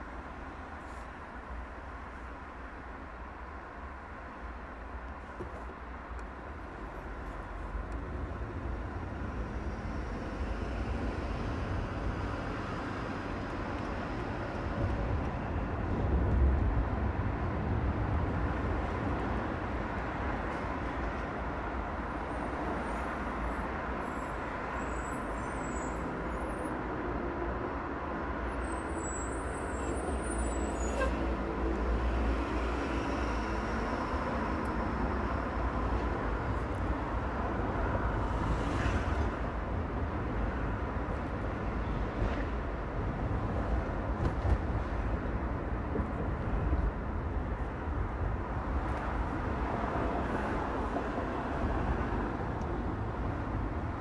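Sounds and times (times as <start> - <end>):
car and tyre road rumble: 0.0 - 54.0
traffic: 0.0 - 54.0.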